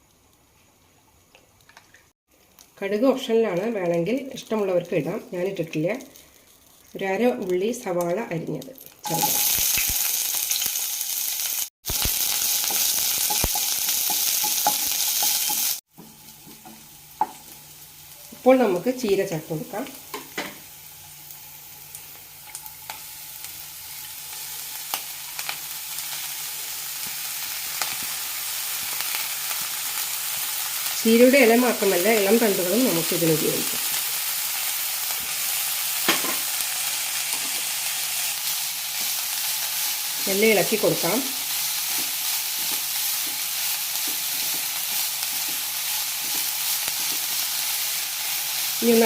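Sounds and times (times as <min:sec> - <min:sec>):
food sizzling in oil: 0:02.5 - 0:49.0.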